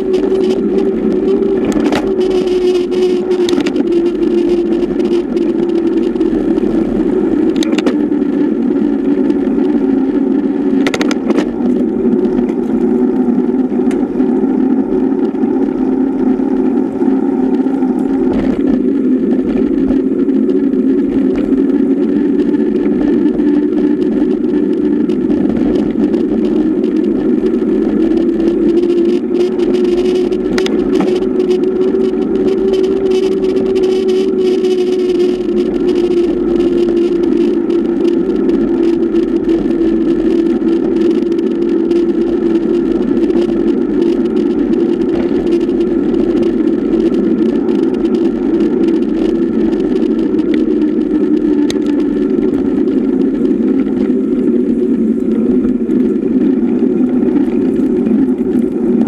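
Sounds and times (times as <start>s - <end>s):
bike tyres and drivetrain hum: 0.0s - 59.0s
wind rush: 0.0s - 59.0s.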